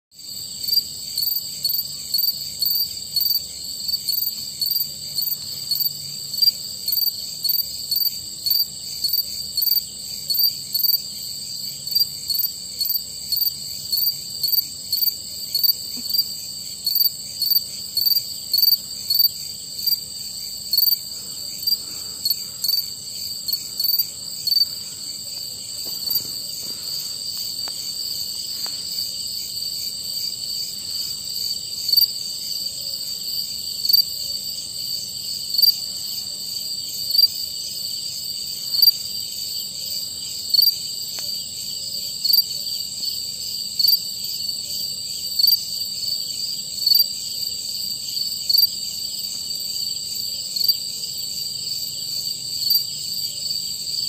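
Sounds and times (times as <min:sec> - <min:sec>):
high-pitched cricket chorus: 0:00.1 - 0:54.0
cricket chirping bursts: 0:00.2 - 0:54.0.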